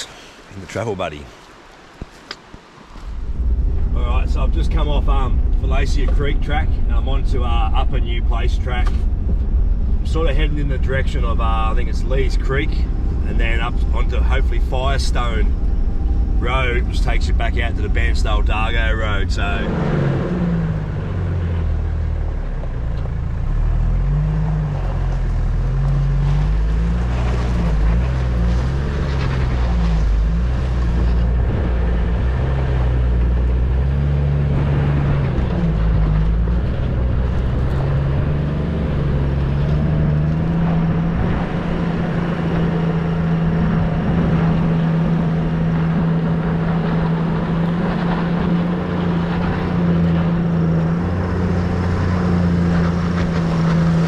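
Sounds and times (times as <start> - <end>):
vehicle engine driving on dirt: 2.0 - 54.0.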